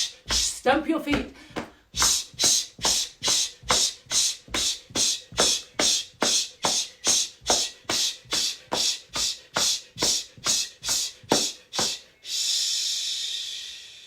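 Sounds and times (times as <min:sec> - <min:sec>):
person hissing shh: 0:02.0 - 0:14.0.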